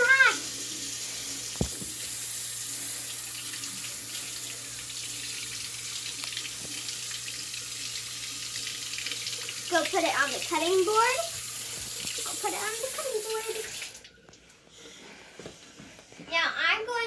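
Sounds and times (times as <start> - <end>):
faucet running into sink: 0.0 - 14.4.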